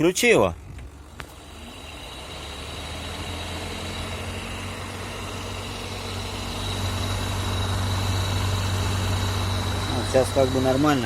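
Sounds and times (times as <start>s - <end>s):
electric cooling fan running: 0.0s - 11.0s.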